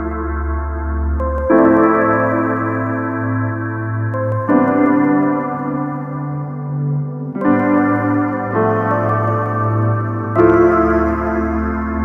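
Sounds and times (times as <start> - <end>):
held keyboard chords: 0.0 - 12.0.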